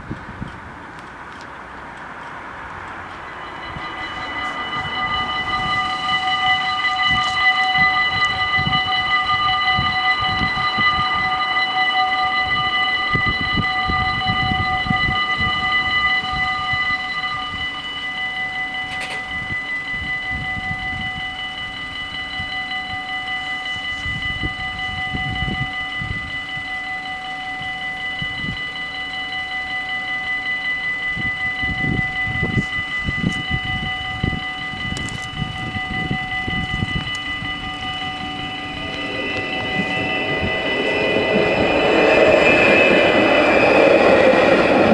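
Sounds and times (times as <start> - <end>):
level crossing bells ringing: 2.7 - 44.9.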